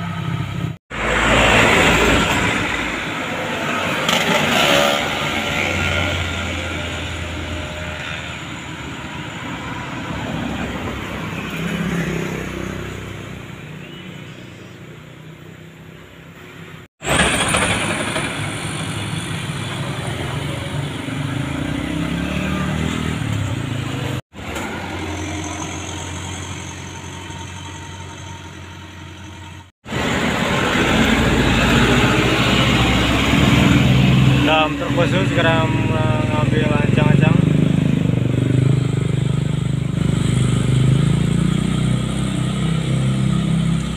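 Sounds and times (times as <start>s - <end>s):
vehicles driving past uphill: 0.0s - 43.9s.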